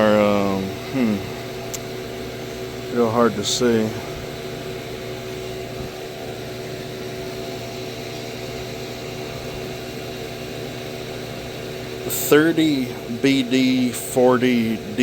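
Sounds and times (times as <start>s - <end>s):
mechanical hum with constant tones: 0.0s - 15.0s.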